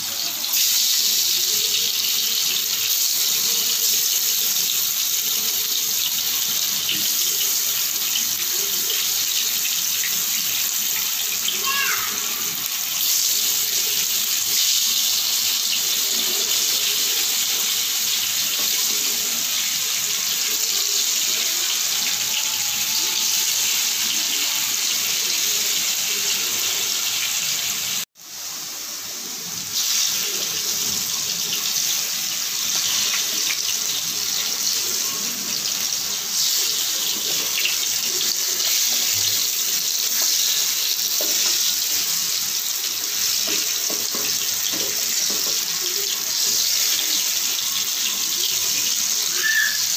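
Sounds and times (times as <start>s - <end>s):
potatoes sizzling in hot oil: 0.0s - 49.9s.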